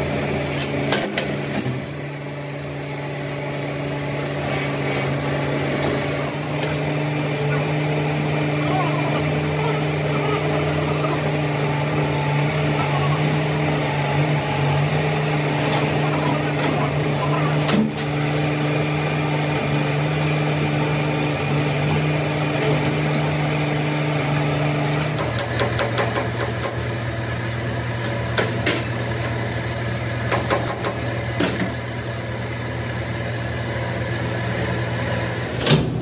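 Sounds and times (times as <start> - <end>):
machine humming: 0.0 - 36.0.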